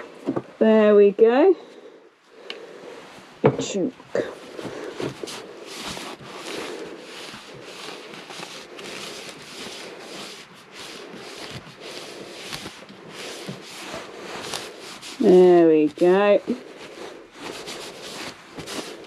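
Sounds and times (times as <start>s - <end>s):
cloth scrubbing wood: 2.8s - 19.0s.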